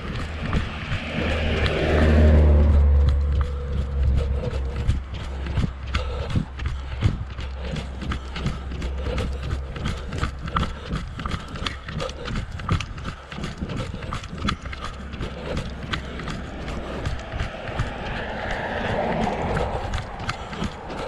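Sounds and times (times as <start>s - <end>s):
low rumble: 0.0s - 11.4s, 12.4s - 21.0s
footsteps on concrete: 0.0s - 21.0s.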